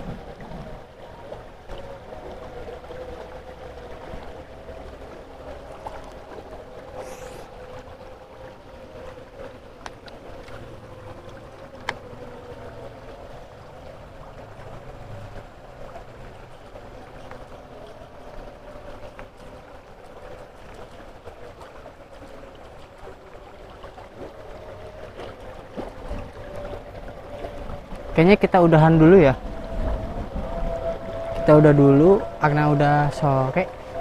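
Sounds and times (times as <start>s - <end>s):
faint steady hum: 0.0s - 34.0s
river water flowing: 0.0s - 34.0s.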